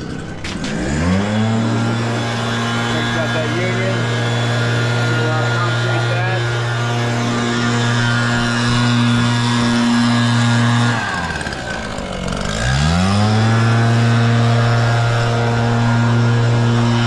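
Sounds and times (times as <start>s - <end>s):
leaf blower engine revving: 0.0s - 17.0s.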